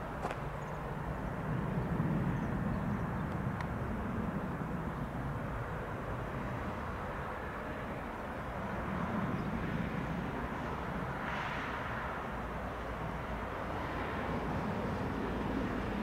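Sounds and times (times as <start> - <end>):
distant jet airliner droning: 0.0 - 16.0.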